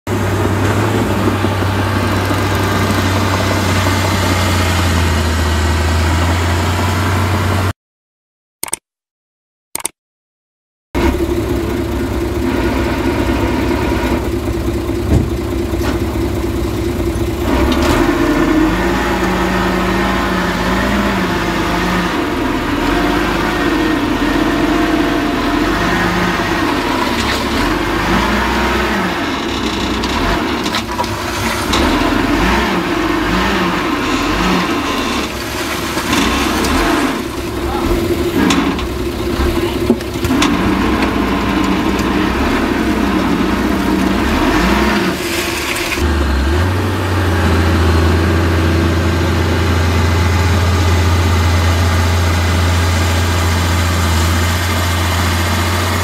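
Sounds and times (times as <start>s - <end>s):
heavy diesel engines running: 0.1s - 7.7s, 11.0s - 56.0s.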